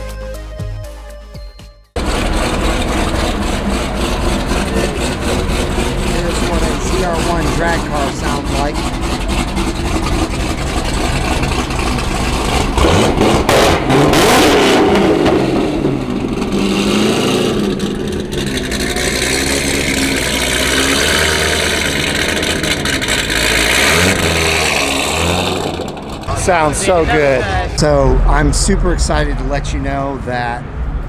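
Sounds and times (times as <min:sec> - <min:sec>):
car engine burbling: 0:02.0 - 0:31.0.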